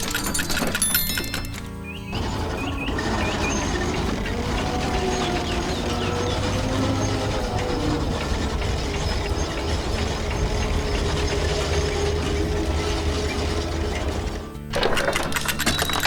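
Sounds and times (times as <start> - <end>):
mechanical rattling and clattering: 0.0 - 16.0
low engine hum: 1.2 - 14.8.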